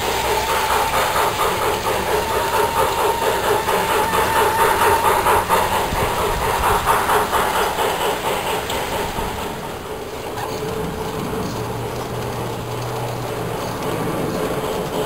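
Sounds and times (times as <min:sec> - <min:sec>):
model train wheels rolling on rail: 0:00.0 - 0:15.0.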